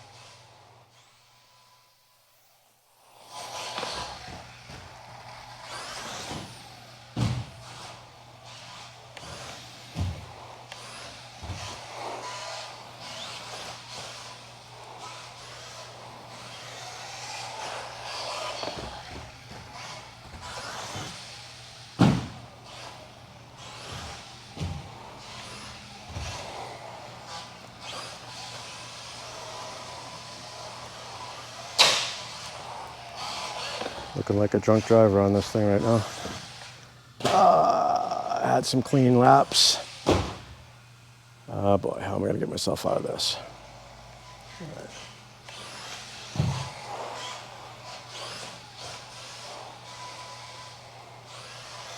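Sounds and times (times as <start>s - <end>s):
electric rc car motor whirring: 0.0s - 42.2s, 43.4s - 51.9s.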